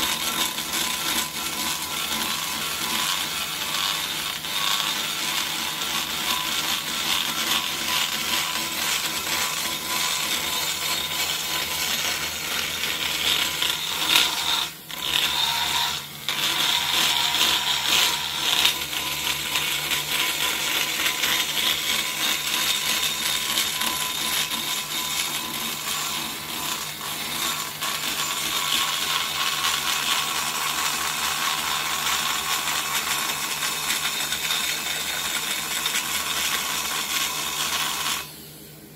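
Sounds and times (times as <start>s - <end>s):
die grinder grinding metal: 0.0s - 38.6s.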